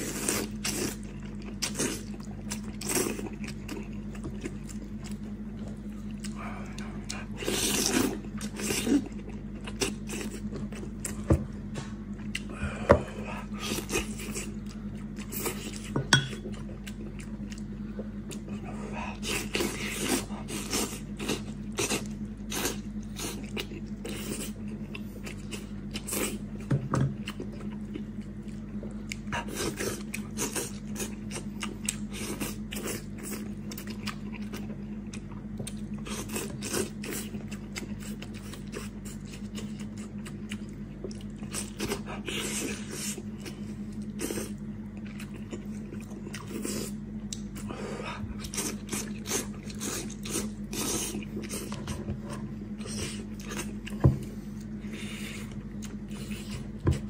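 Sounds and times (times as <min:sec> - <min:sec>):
person chewing meat: 0:00.0 - 0:57.0.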